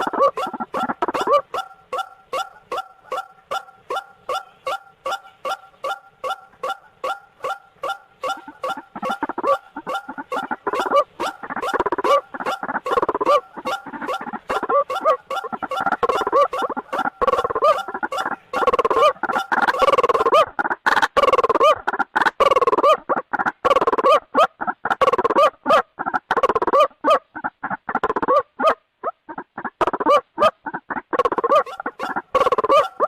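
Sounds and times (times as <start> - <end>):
waterhen calling: 0.0 - 33.0.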